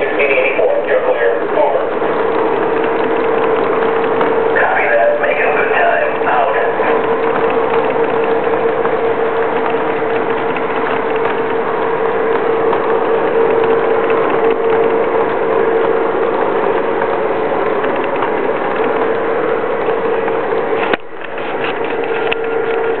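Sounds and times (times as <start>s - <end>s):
model train clattering: 0.0s - 23.0s
model train whine: 0.0s - 23.0s.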